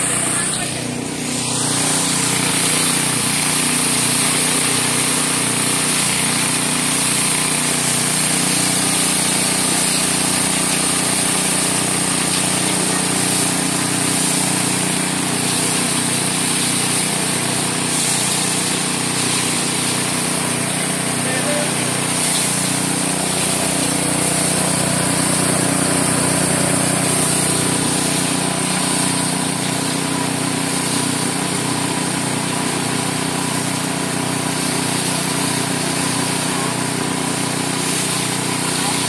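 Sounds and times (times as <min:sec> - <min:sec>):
motor-driven machine running: 0:00.0 - 0:39.0.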